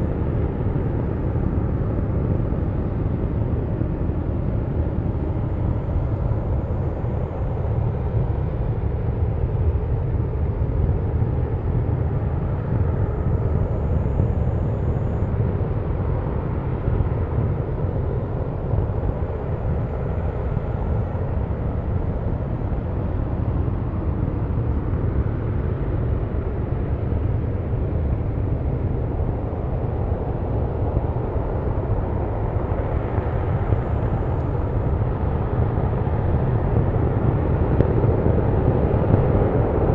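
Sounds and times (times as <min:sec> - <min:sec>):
rocket engine deep rumble: 0:00.0 - 0:39.9.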